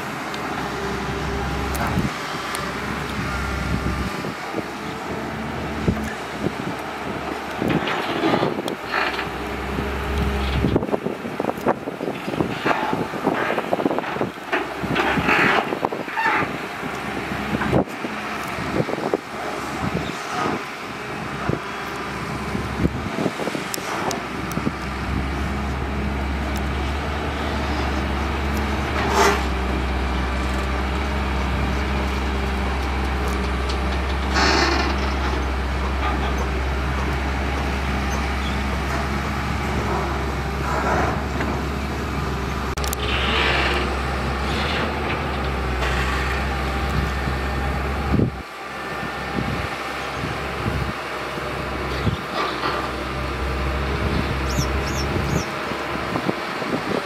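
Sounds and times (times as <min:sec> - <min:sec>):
digging noises: 0:00.0 - 0:57.0
excavator diesel engine hum: 0:00.0 - 0:57.0.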